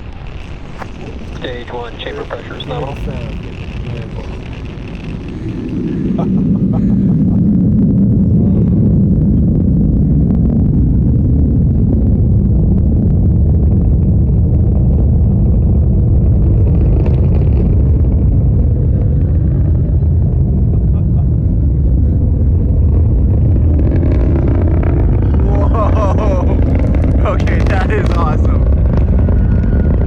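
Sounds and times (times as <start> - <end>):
distant rocket engines rumbling: 0.0 - 30.0.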